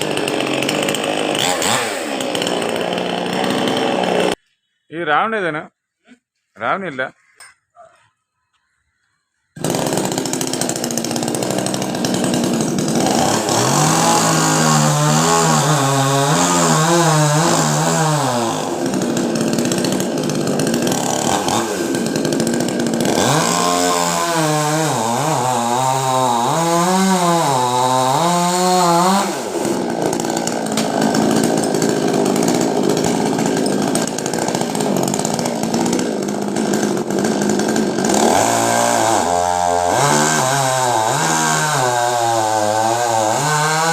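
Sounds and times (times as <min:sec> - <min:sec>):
chainsaw cutting wood: 0:00.0 - 0:04.5, 0:09.5 - 0:43.9.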